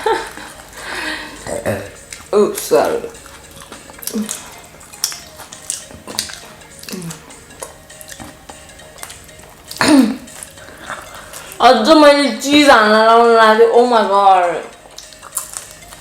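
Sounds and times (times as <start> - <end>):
faint music: 0.0 - 16.0.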